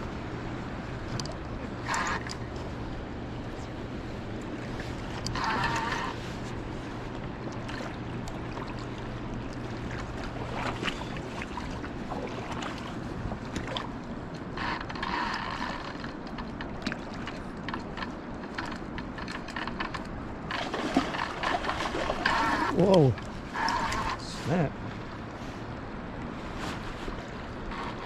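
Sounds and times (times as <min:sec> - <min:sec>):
boat motor running: 0:00.0 - 0:26.4
river noise: 0:00.0 - 0:28.0
wind: 0:00.0 - 0:28.0.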